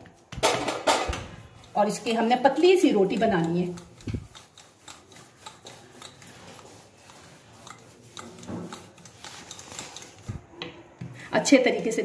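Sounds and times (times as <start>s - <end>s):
rolling pin rubbing dough: 1.4s - 12.0s.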